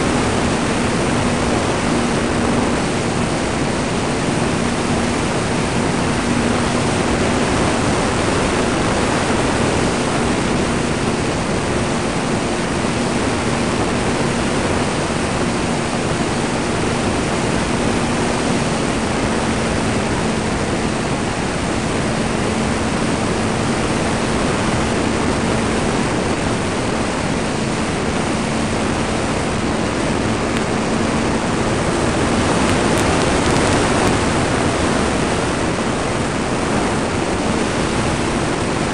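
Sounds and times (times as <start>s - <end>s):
electric motor and propeller drone: 0.0s - 38.9s
wind rushing over microphone: 0.0s - 38.9s.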